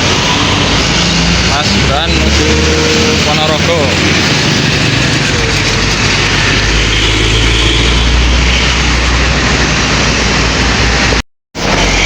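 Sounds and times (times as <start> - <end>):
bus driving past: 0.0 - 12.0.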